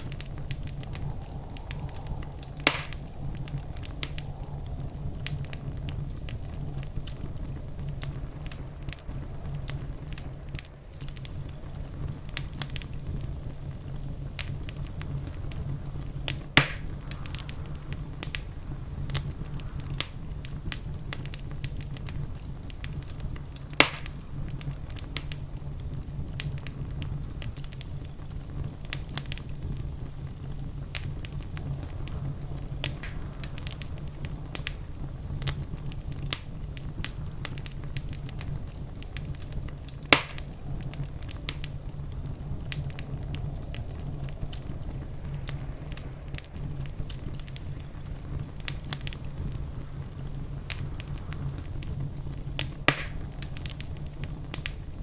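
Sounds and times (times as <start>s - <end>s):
loud fire pops: 0.0s - 55.0s
wood fire crackling: 0.0s - 55.0s.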